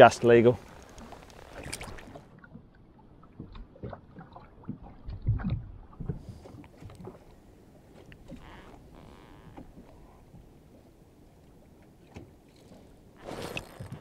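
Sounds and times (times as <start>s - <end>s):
water sloshing against boat: 0.0s - 14.0s.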